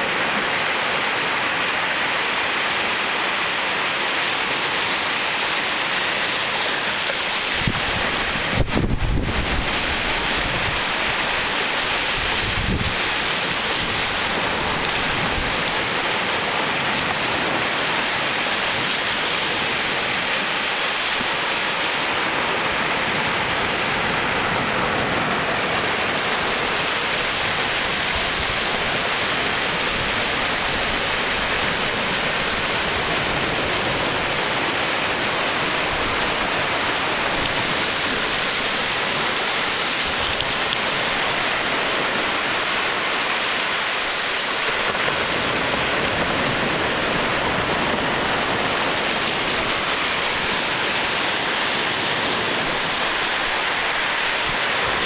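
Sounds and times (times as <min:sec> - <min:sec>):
ocean waves washing up a beach: 0:00.0 - 0:55.0.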